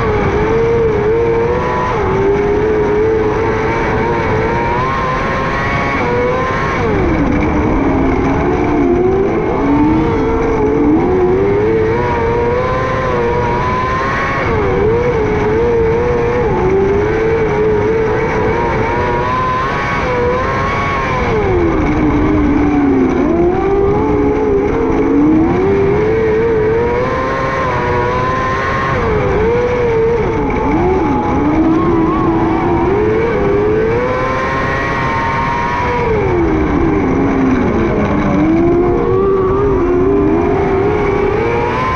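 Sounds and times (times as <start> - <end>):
racing engine at high revs: 0.0 - 41.9.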